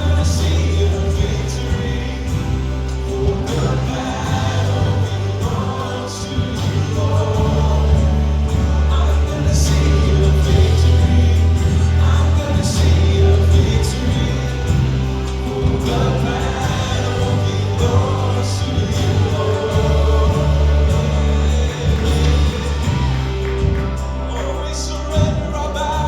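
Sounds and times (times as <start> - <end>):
group of voices singing: 0.0 - 26.0
worship band playing: 0.0 - 26.0.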